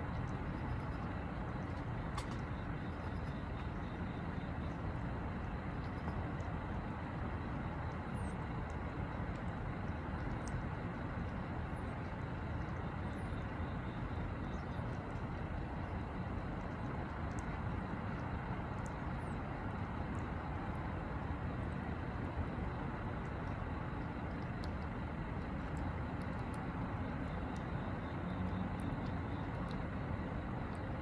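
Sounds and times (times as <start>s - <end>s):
distant traffic rumble: 0.0s - 31.0s
faint soft clicks: 0.1s - 6.8s, 7.6s - 20.9s, 23.0s - 30.0s.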